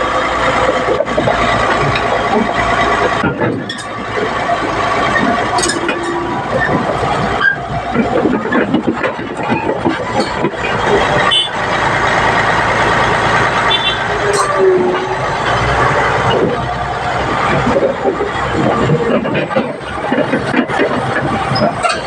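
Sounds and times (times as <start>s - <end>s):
bulldozer diesel engine: 0.0s - 22.0s
metallic clanks: 0.6s - 12.0s, 13.7s - 16.7s, 17.3s - 22.0s.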